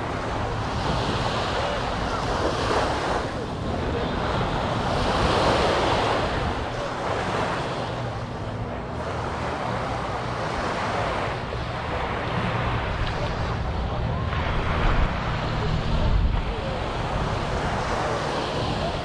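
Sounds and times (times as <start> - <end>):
ocean surf washing onto beach: 0.0 - 19.0.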